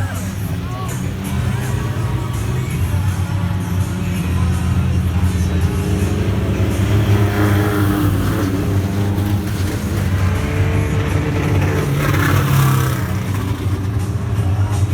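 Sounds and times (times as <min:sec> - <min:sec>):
race car engines revving: 0:00.0 - 0:14.9.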